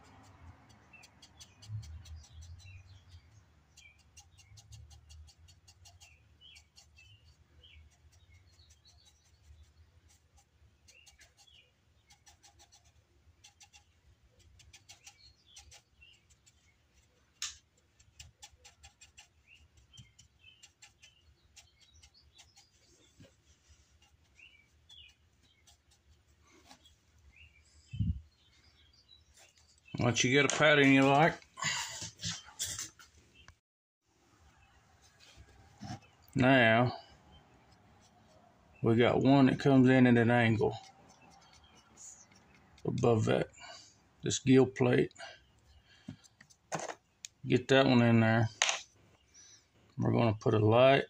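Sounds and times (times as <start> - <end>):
faint bird chirps: 0.0 - 31.3, 34.4 - 44.3.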